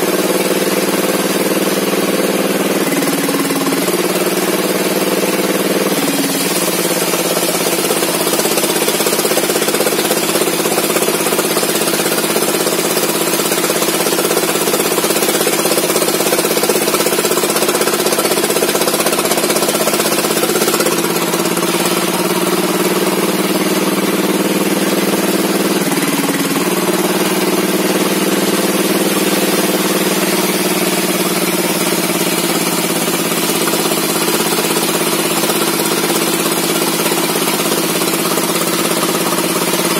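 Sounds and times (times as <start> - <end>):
chainsaw engine cutting log: 0.0 - 39.9.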